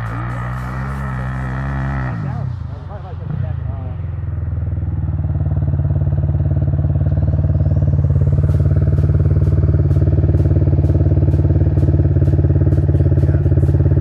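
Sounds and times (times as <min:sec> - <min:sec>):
atv engine idling: 0:00.0 - 0:02.2, 0:04.1 - 0:14.0.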